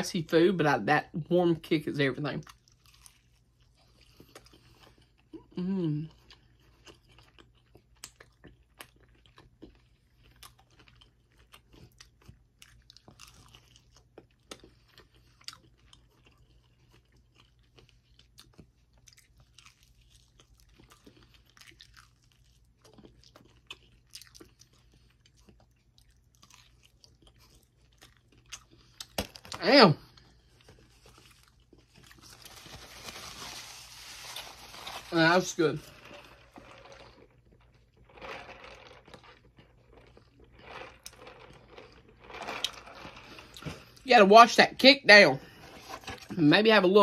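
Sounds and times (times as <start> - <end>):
chewing and crunching fried chicken: 1.9 - 44.1.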